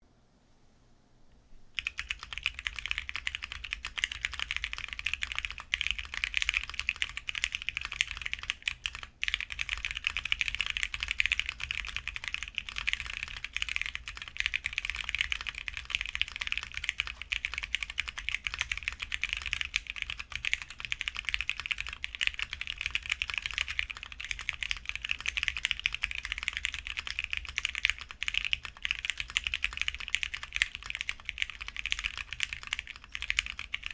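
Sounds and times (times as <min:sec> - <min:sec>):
fast typing on mechanical keyboard: 0:01.8 - 0:33.9.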